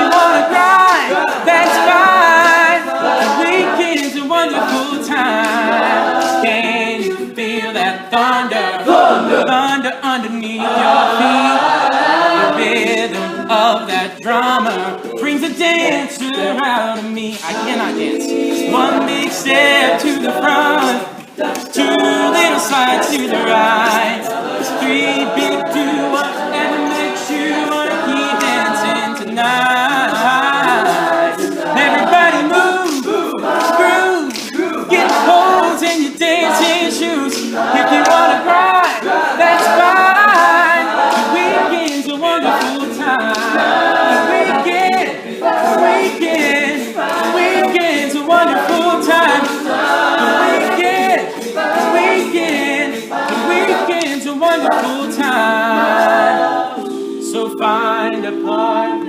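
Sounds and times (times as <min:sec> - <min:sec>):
male group singing in harmony: 0:00.0 - 0:59.0
vocal percussion beat: 0:00.0 - 0:59.0.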